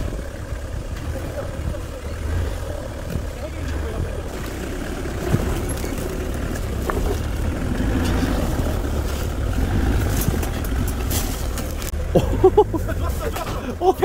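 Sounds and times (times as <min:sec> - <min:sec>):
engine running at low revs: 0:00.0 - 0:14.0.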